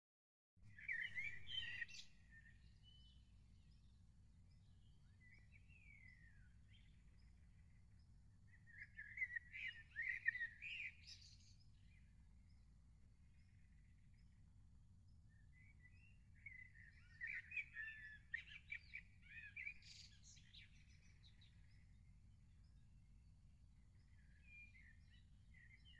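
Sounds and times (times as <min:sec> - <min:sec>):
small birds singing: 0:00.6 - 0:25.9.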